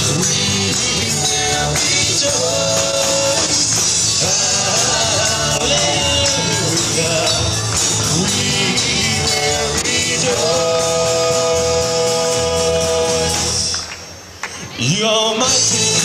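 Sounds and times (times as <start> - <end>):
rock band playing: 0.0 - 13.7
man singing: 0.0 - 13.8, 14.7 - 16.0.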